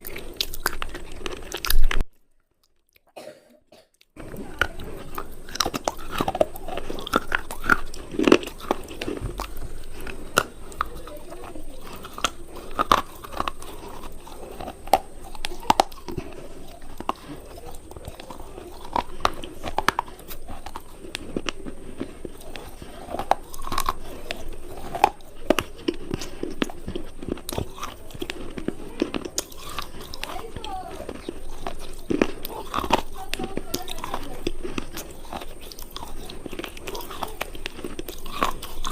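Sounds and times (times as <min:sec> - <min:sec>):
hard cubes crunching: 0:00.0 - 0:02.1, 0:04.2 - 0:38.9
soft chewing: 0:00.0 - 0:38.9.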